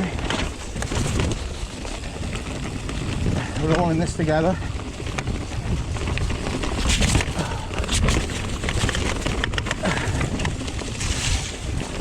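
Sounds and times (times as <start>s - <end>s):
bike clicking and rattling: 0.0s - 12.0s
wind buffeting microphone: 0.0s - 12.0s.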